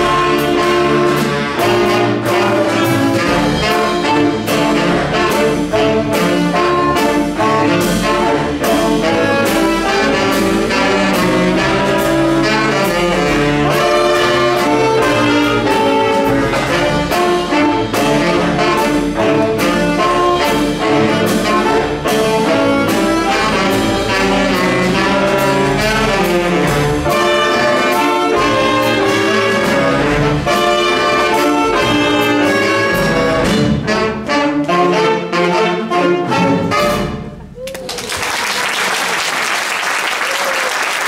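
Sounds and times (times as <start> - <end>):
drum kit and cymbals: 0.0 - 34.4
double bass: 0.0 - 37.6
saxophone ensemble playing jazz: 0.0 - 41.0.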